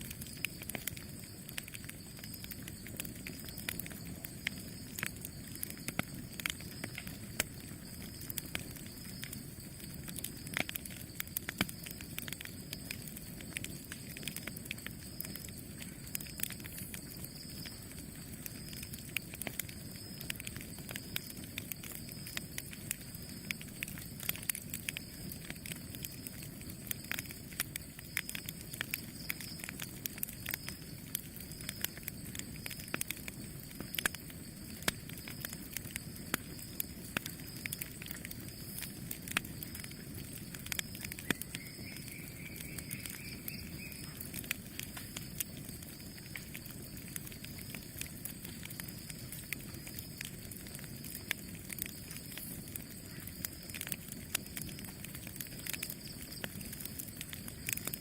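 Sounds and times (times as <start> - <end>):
flames rushing: 0.0 - 43.6, 44.2 - 58.0
campfire crackling and popping: 0.0 - 58.0.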